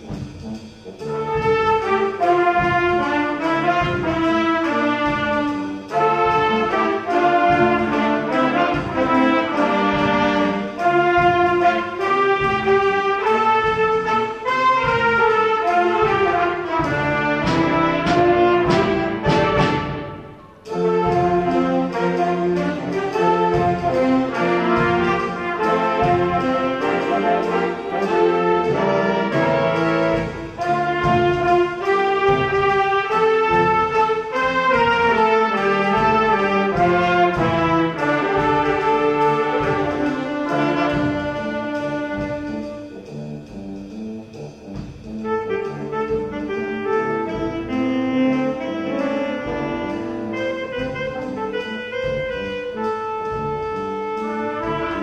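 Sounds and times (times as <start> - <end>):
jazz band playing: 0.0 - 55.0.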